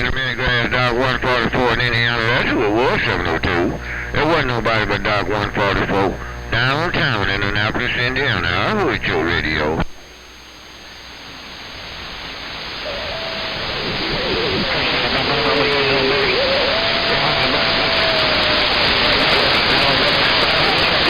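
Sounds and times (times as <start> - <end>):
faint wavering radio whistles: 0.0 - 21.0
radio static hiss: 0.0 - 21.0.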